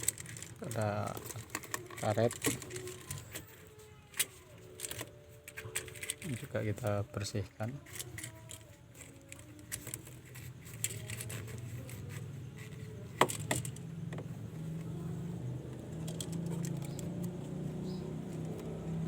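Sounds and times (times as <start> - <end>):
plastic parts clicking and rattling: 0.0 - 19.0.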